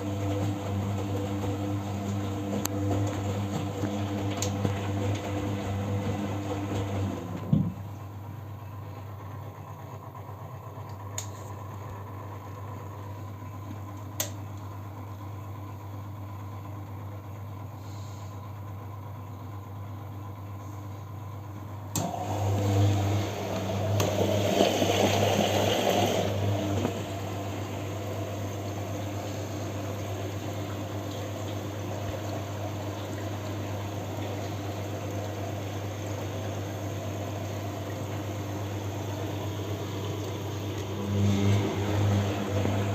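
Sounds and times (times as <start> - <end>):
washing machine hum: 0.0 - 42.9.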